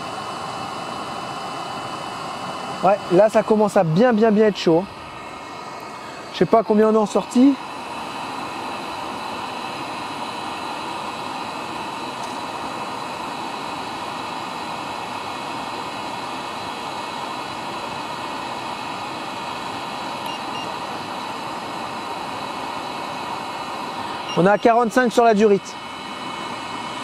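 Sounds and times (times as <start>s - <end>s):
heater blower rushing hiss: 0.0s - 27.0s
thin high whines: 0.0s - 27.0s.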